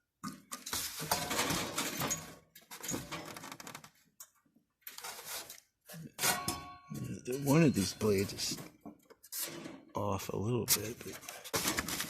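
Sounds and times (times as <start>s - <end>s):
plastic and metal parts clattering: 0.2s - 10.0s, 10.7s - 12.0s.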